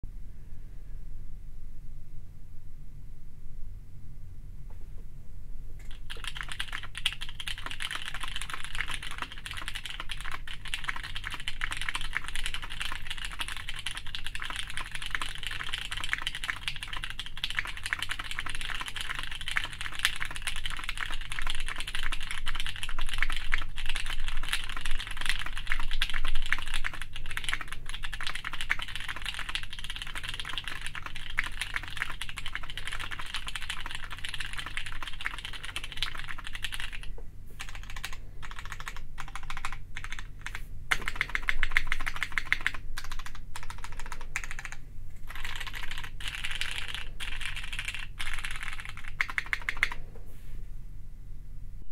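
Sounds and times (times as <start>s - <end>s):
fast typing on mechanical keyboard: 5.8s - 50.0s.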